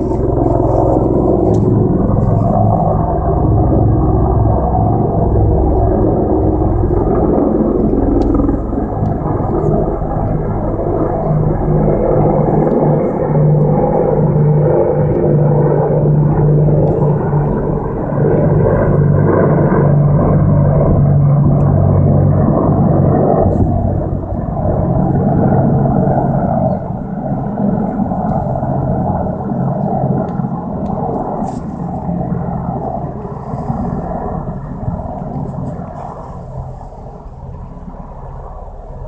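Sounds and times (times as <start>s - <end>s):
helicopters flying overhead: 0.0s - 39.0s.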